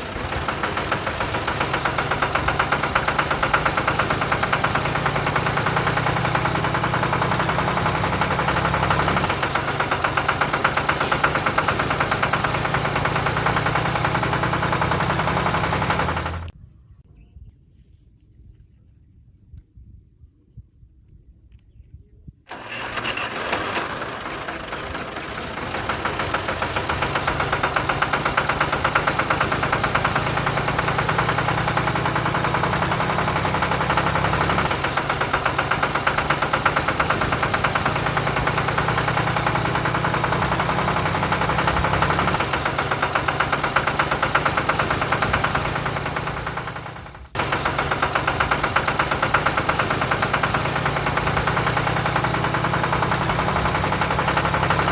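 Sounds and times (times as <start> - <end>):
small engine running: 0.0 - 16.5, 22.5 - 54.9.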